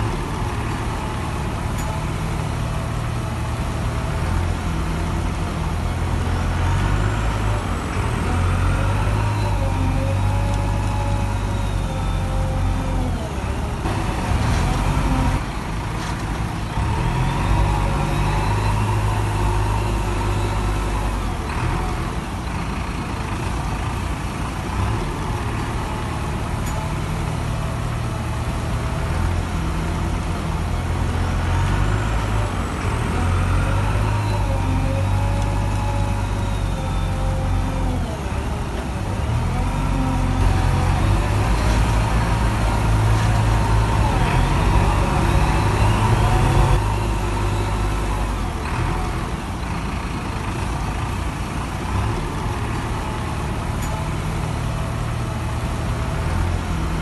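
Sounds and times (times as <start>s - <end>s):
diesel engine working hard: 0.0s - 57.0s.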